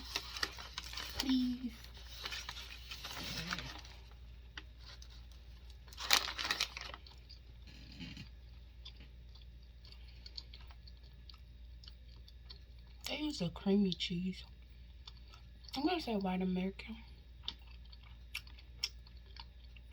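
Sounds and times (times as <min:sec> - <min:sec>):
close-up chewing: 0:00.0 - 0:13.1, 0:14.5 - 0:16.2, 0:17.0 - 0:19.9.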